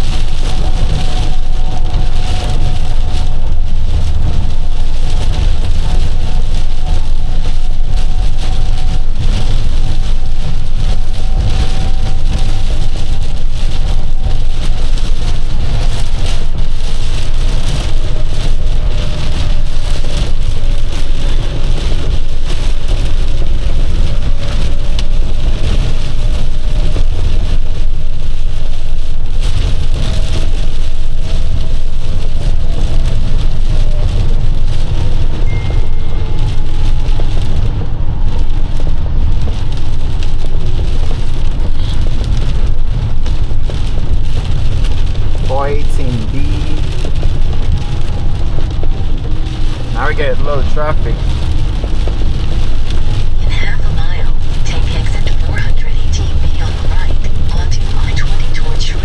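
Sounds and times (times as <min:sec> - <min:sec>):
rain hitting truck: 0:00.0 - 0:59.0
truck engine and road rumble: 0:00.0 - 0:59.0.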